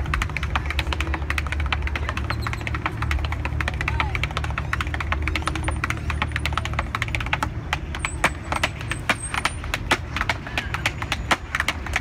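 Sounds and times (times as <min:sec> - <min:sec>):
tap shoes on wooden board: 0:00.0 - 0:12.0.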